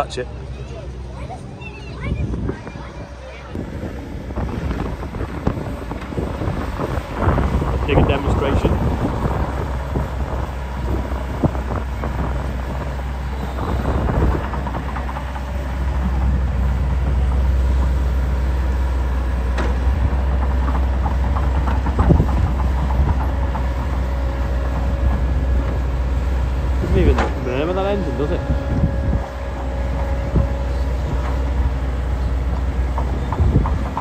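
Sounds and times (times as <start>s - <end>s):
excavator diesel engine rumbling: 0.0s - 34.0s
steel tracks clanking: 0.8s - 34.0s.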